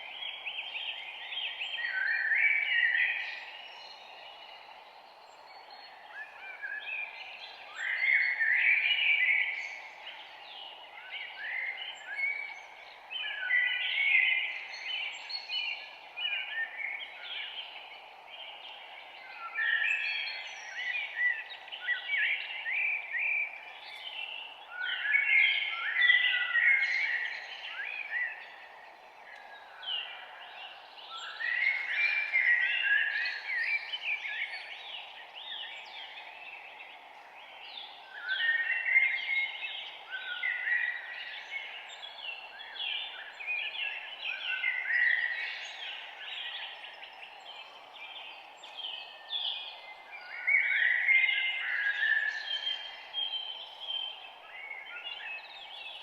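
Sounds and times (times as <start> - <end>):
songbirds chirping: 0.0 - 56.0
steady background hiss: 0.0 - 56.0.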